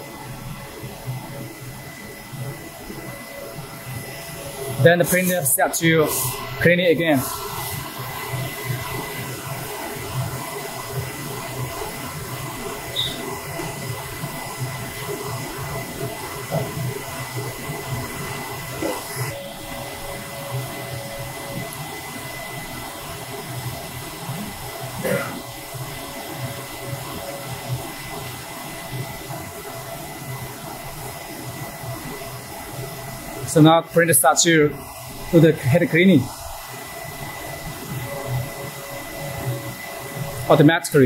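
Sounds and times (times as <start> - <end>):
printer machine hum: 0.0 - 41.0
steady machine whine: 0.0 - 41.0.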